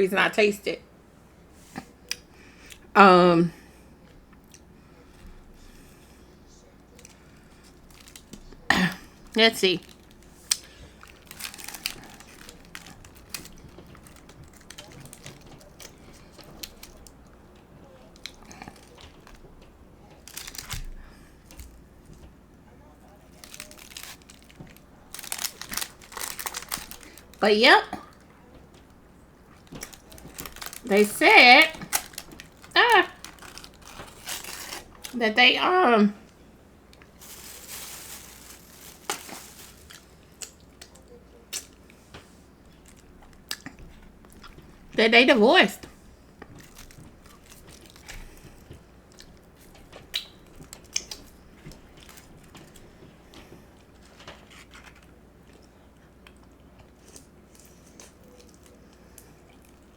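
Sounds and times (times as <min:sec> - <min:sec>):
chewing crisp fried food: 0:04.0 - 0:27.4, 0:28.0 - 0:31.0, 0:31.8 - 0:35.2, 0:36.2 - 0:45.0, 0:45.8 - 0:59.9.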